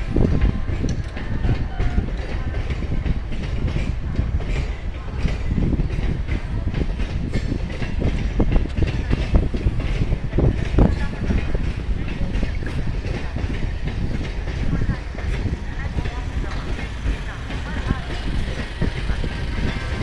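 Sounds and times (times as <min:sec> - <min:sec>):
low train rumble: 0:00.0 - 0:20.0
train wheels clacking over rail joints: 0:00.0 - 0:20.0.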